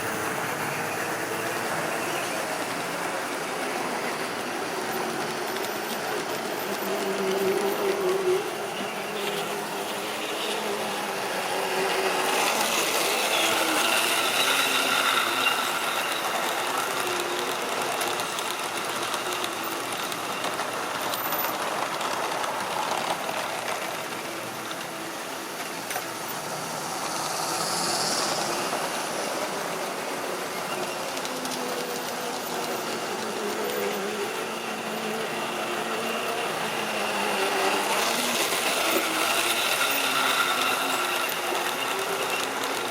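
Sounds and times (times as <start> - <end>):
wheels rattling over rails: 0.0 - 42.9.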